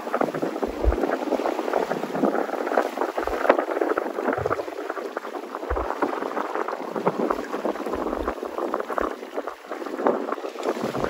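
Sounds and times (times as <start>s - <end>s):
sea water splashing: 0.0s - 11.0s
wind buffeting microphone: 0.0s - 11.0s.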